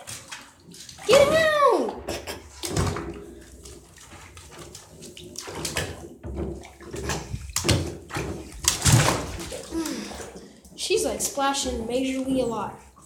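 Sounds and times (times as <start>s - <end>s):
water splashing in tub: 0.0s - 13.0s.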